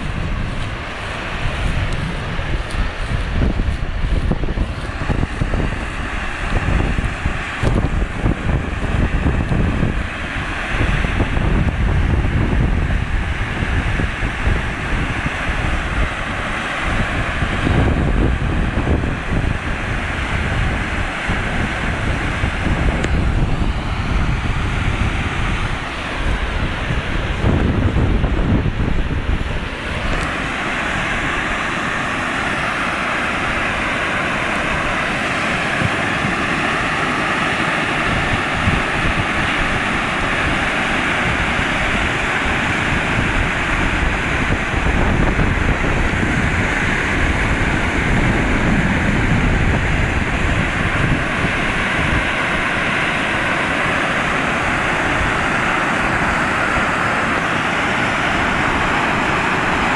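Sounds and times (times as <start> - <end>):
oil spraying with rushing hiss: 0.0 - 59.9
wind buffeting microphone: 0.0 - 59.9.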